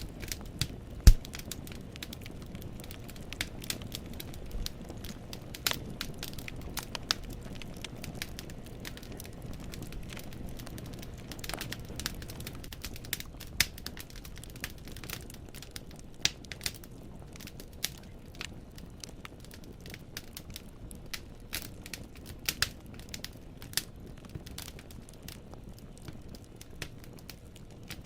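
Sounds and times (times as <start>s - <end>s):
burning logs popping and snapping: 0.0s - 28.0s
low rumble of flames: 0.0s - 28.0s.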